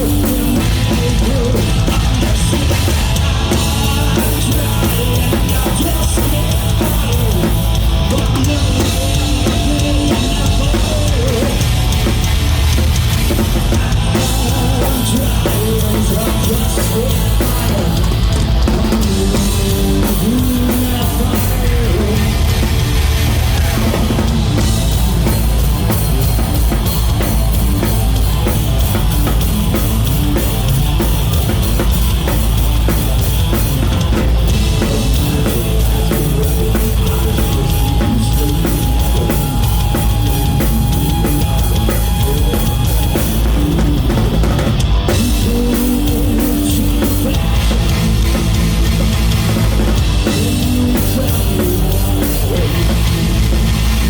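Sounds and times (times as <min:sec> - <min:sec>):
drum kit beat: 0:00.0 - 0:54.0
hard rock band playing: 0:00.0 - 0:54.0.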